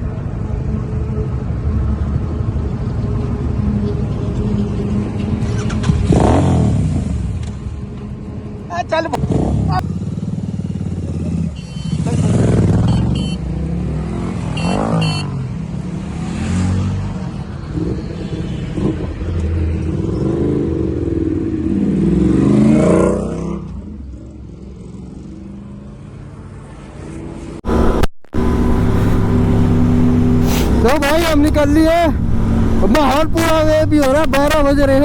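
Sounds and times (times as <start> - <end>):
motorcycle engines revving: 3.2 - 35.0.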